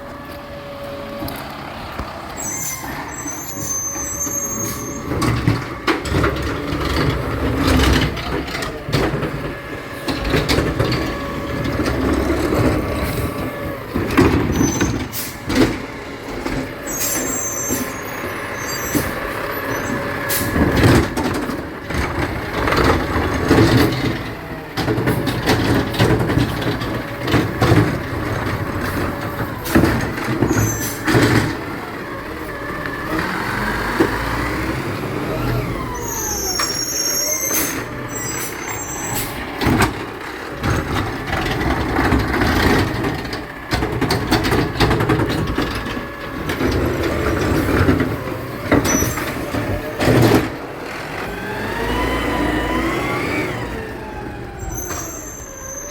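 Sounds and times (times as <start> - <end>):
garbage truck engine running: 0.0 - 55.9.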